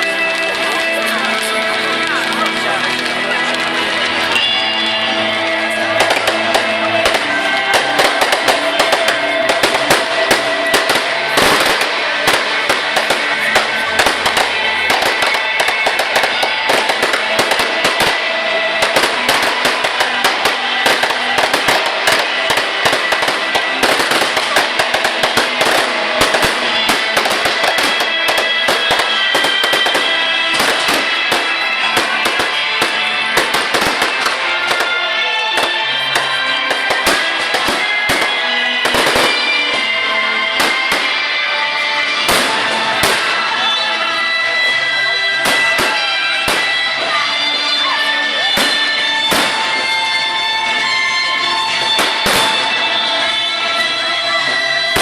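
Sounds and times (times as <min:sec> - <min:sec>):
fireworks crackling: 0:00.0 - 0:55.0
loud music: 0:00.0 - 0:55.0.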